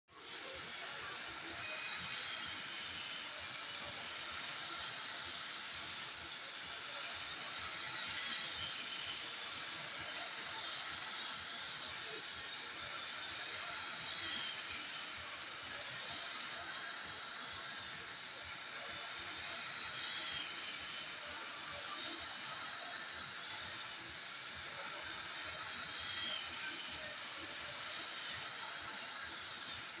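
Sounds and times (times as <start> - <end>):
toy electric trains whirring: 0.1 - 30.0
wheels clicking on rails: 0.1 - 30.0.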